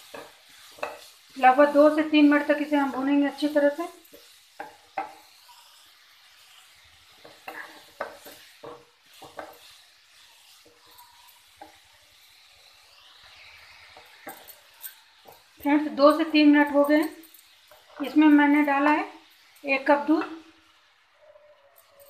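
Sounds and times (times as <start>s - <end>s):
spatula scraping and knocking pan: 0.0s - 20.4s
faint sizzle: 0.0s - 22.0s.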